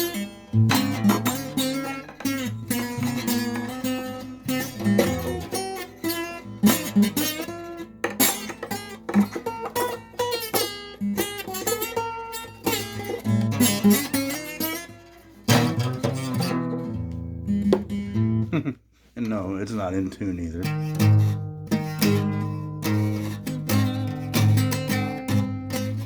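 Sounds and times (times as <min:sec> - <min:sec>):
out of tune guitar strumming: 0:00.0 - 0:18.7, 0:20.6 - 0:26.0.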